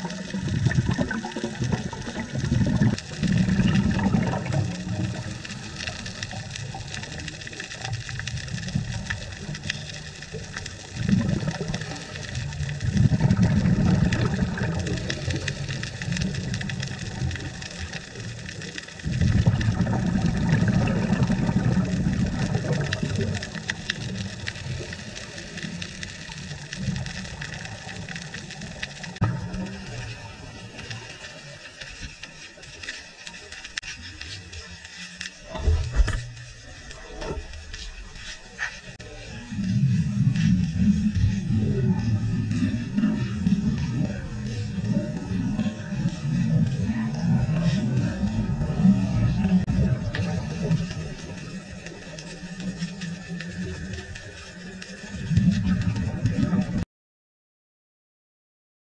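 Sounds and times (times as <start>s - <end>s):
fine underwater crackling: 0.0s - 56.8s
underwater exhaled bubbles rumbling: 0.0s - 56.8s.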